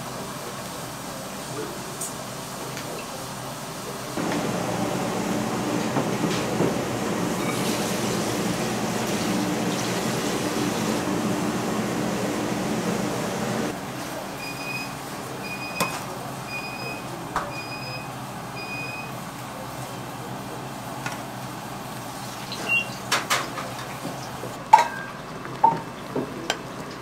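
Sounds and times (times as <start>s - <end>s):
steady kitchen hiss: 0.0s - 27.0s.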